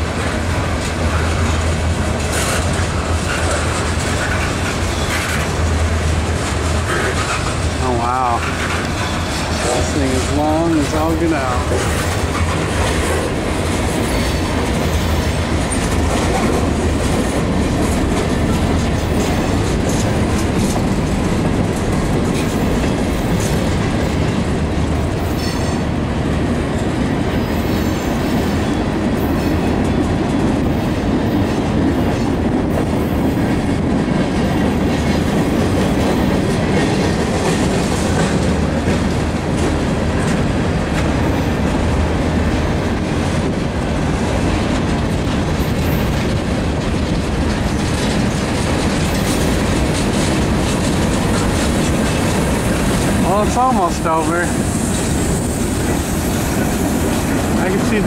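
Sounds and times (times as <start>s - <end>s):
freight train wheels rumbling: 0.0s - 58.0s
wheels clacking over rail joints: 0.0s - 58.0s.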